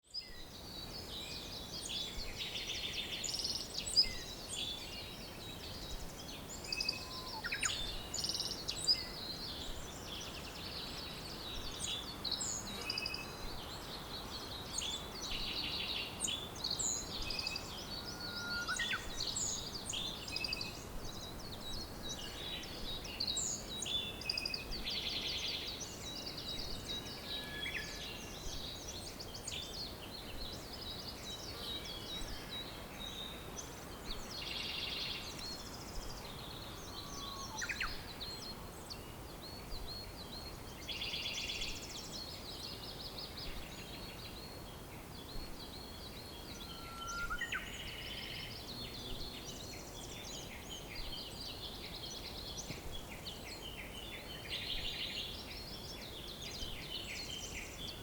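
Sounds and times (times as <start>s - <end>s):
songbirds chirping and trilling: 0.0s - 58.0s
steady background hiss: 0.2s - 58.0s.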